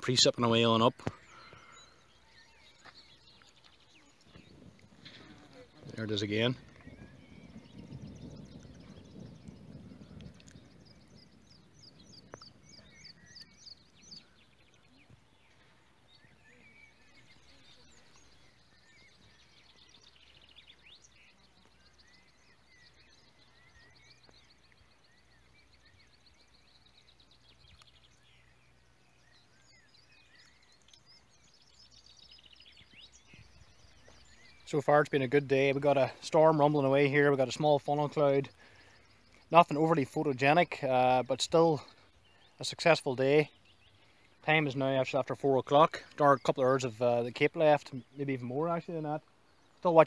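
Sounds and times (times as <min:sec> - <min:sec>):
birds chirping and trilling: 0:00.0 - 0:50.0.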